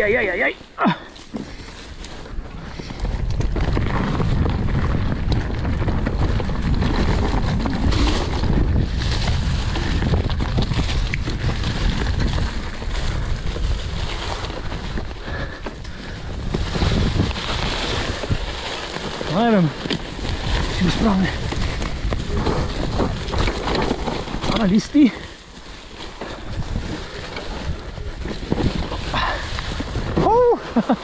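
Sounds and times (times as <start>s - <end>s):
bike tyres rumbling on dirt: 0.0s - 31.0s
bike clicks and knocks: 1.2s - 30.3s
wind buffeting microphone: 1.3s - 31.0s.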